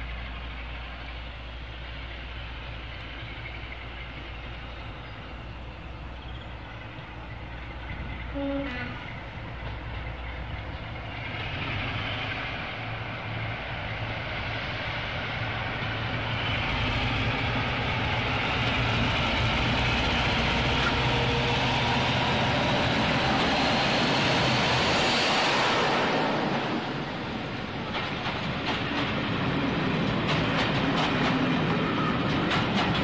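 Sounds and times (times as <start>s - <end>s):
diesel locomotive engine drone: 0.0s - 33.0s
wheels rumbling on rail: 0.0s - 33.0s.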